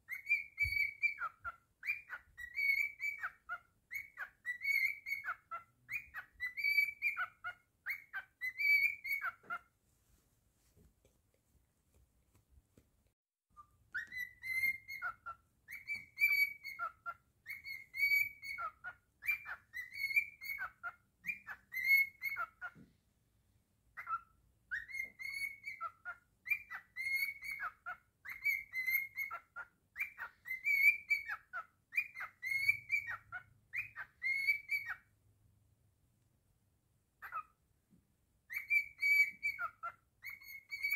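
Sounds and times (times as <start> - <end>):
cockatiel whistling a tune: 0.0 - 9.7, 13.5 - 22.8, 23.9 - 35.2, 37.2 - 37.6, 38.4 - 40.9.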